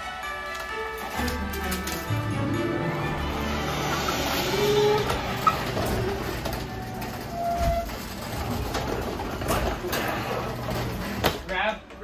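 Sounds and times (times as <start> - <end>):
garage door rolling down: 0.1 - 12.0
rollers squeaking: 0.1 - 12.0.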